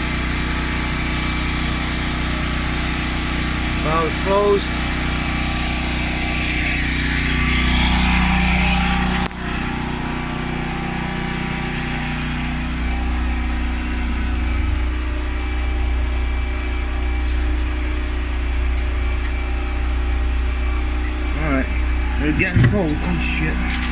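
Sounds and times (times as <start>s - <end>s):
refrigerator compressor humming: 0.0s - 23.9s.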